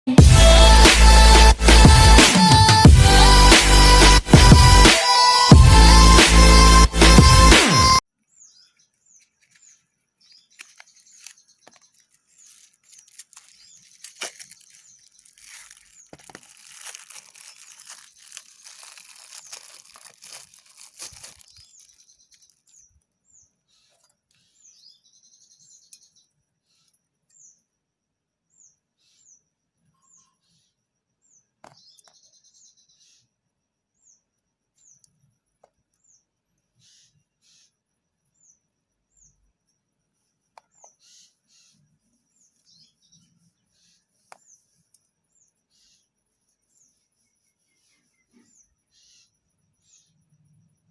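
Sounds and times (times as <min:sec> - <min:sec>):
bird chirping: 0:08.2 - 0:50.9.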